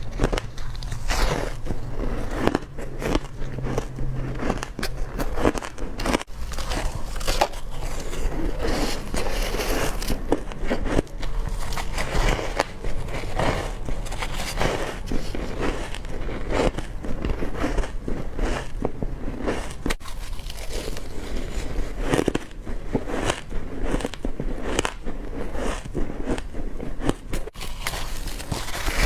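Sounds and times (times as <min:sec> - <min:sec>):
person crunching ice: 0:00.0 - 0:29.0.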